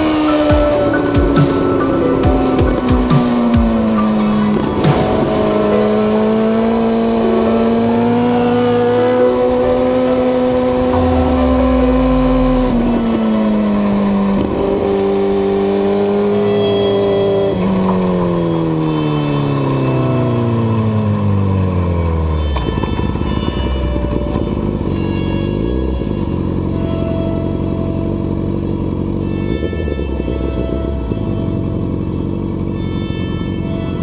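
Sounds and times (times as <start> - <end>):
motorcycle engine at high revs: 0.0 - 34.0.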